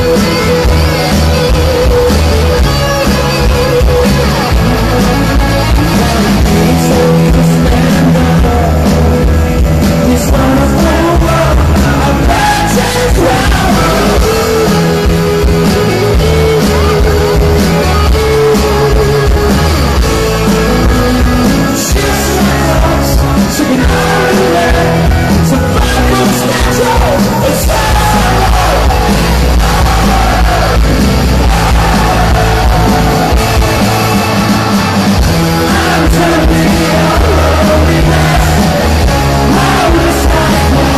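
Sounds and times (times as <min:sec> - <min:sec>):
person singing: 0:00.0 - 0:33.9, 0:35.6 - 0:40.9
bass guitar: 0:00.0 - 0:40.9
drums: 0:00.0 - 0:40.9
electric guitars: 0:00.0 - 0:40.9.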